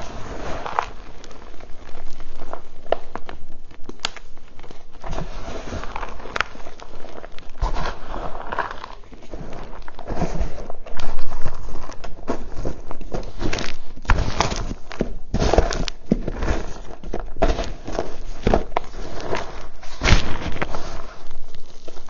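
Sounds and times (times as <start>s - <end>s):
chalk crunching by hand: 0.0s - 3.0s, 5.0s - 22.0s.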